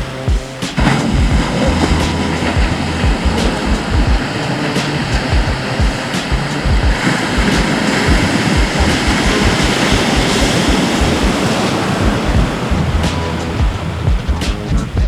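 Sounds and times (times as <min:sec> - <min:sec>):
surf washing on a beach: 0:00.0 - 0:15.0
wind buffeting microphone: 0:00.0 - 0:15.0.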